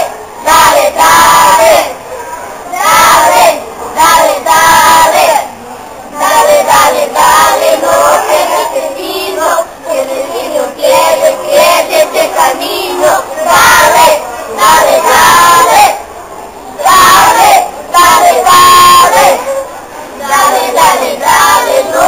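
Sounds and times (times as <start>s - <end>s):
children singing in unison: 0.0s - 2.0s, 2.7s - 5.5s, 6.2s - 16.0s, 16.8s - 22.0s.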